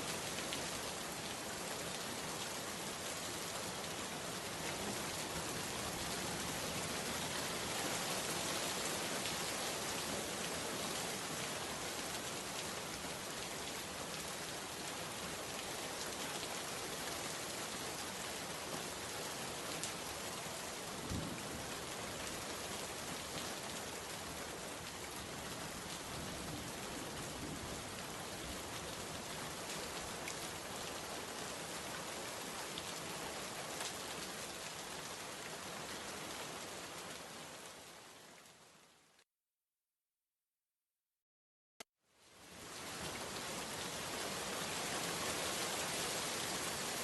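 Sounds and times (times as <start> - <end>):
steady rain hiss: 0.0 - 39.2, 42.1 - 47.0.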